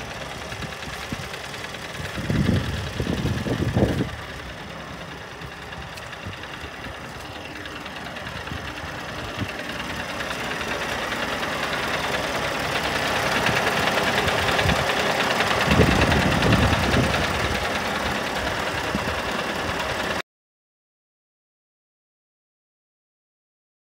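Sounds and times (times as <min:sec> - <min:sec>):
diesel truck engine idling: 0:00.0 - 0:20.2.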